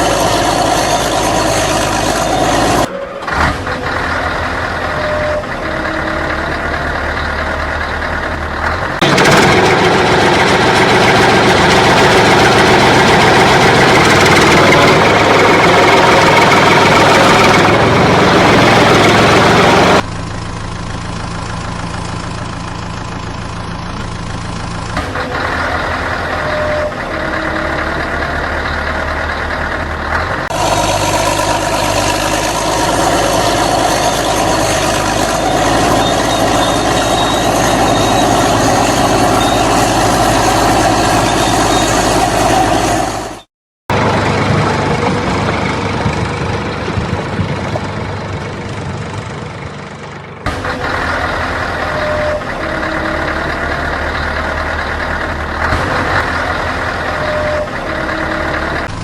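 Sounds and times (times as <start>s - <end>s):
vehicle engine idling: 0.0s - 42.8s, 43.9s - 59.0s.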